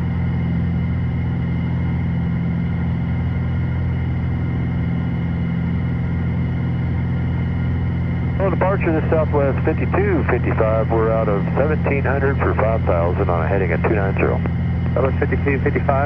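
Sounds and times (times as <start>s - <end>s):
airplane piston engine drone: 0.0s - 16.0s.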